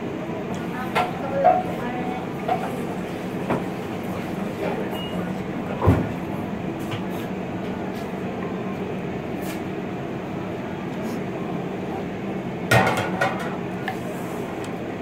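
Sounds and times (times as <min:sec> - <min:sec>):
low rumble of restaurant noise: 0:00.0 - 0:15.0.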